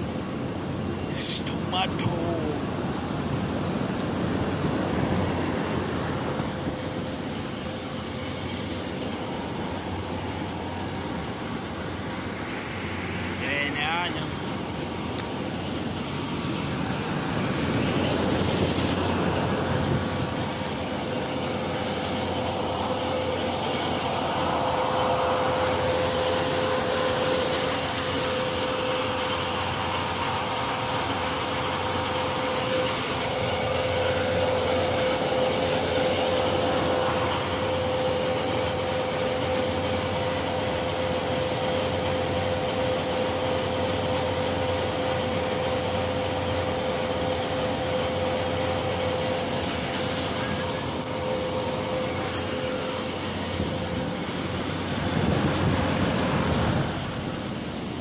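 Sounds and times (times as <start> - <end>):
rushing noise: 0.0 - 58.0
steady drone with held tone: 4.2 - 58.0.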